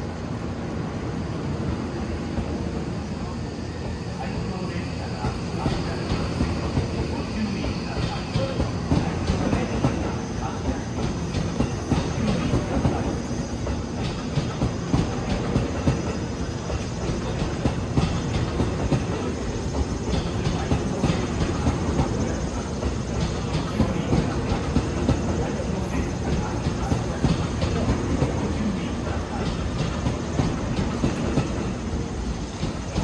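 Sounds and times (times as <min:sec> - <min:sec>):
electric train rumbling past: 0:00.0 - 0:33.0.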